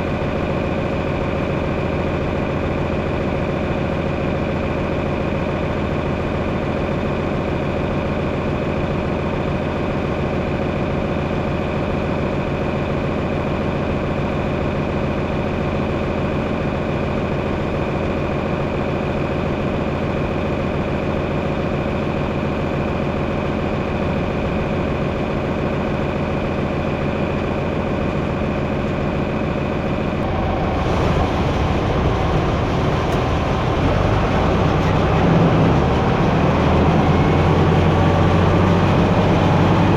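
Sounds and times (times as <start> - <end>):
heavy farm machine engine running: 0.0 - 39.9.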